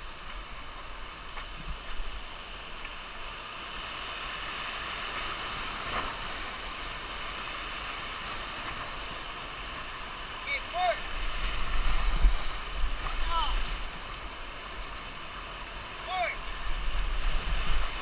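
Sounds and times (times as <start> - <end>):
whitewater rapids rushing: 2.1 - 18.0.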